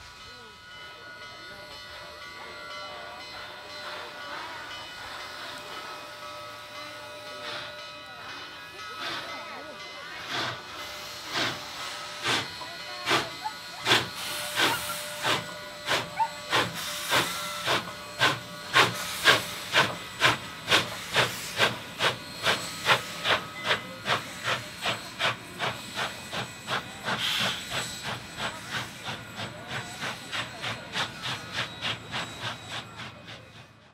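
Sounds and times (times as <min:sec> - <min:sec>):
steady steam hiss: 0:00.0 - 0:33.9
steam locomotive exhaust chuffing: 0:00.0 - 0:33.9.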